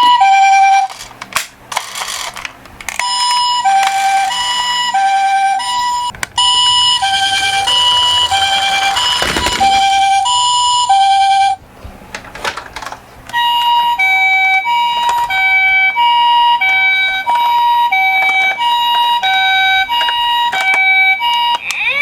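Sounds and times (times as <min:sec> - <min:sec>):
two-tone ambulance siren: 0:00.0 - 0:01.0, 0:02.9 - 0:11.6, 0:13.4 - 0:22.0.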